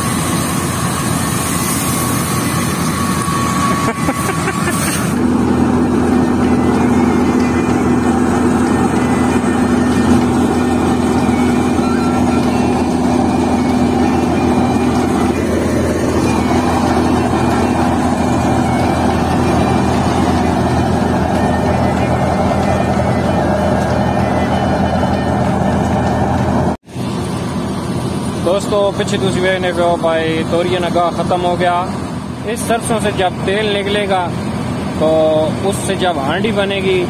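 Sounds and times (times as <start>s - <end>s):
threshing machine droning: 0.0s - 37.0s.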